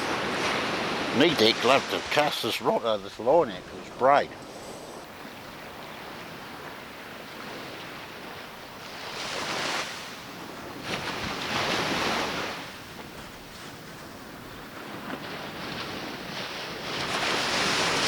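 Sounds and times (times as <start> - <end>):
waves breaking on shore: 0.0 - 18.0
waves washing: 0.0 - 18.0.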